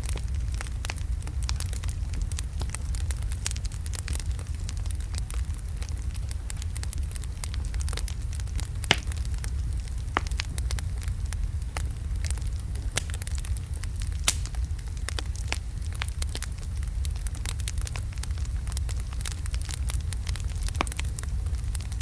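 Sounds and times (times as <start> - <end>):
fire crackling and popping: 0.0 - 22.0
low rumble of flame: 0.0 - 22.0.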